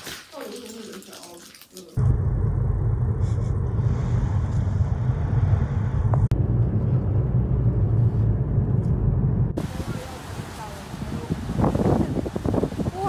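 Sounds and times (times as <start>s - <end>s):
car engine and road noise: 2.0s - 12.9s.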